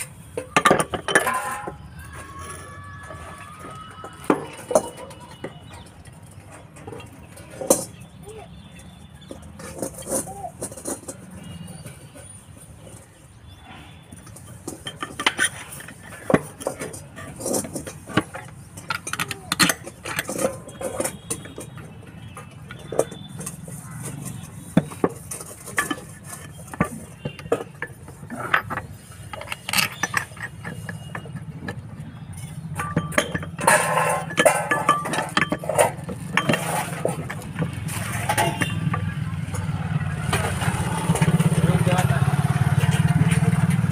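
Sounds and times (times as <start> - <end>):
metal clinks and knocks: 0.0 - 43.9.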